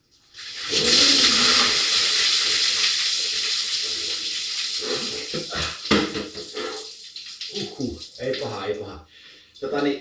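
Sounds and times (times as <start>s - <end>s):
water splashing on tiled floor: 0.4s - 8.6s.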